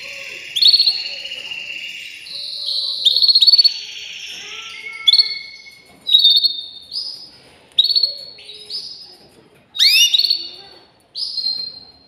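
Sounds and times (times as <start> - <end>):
canary singing trills: 0.0 - 12.0.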